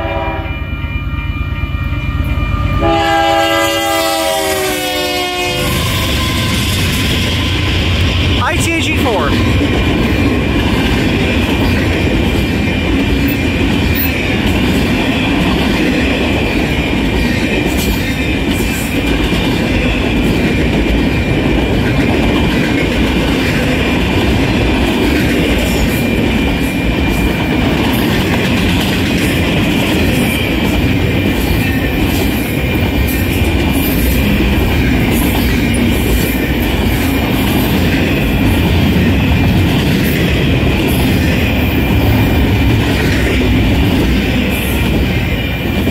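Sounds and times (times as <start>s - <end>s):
train wheels rumbling on rails: 3.6s - 8.4s, 9.4s - 45.9s.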